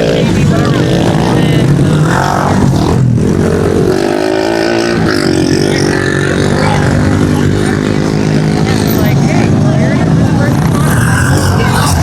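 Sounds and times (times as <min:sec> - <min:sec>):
pit bike engines revving: 0:00.0 - 0:12.0.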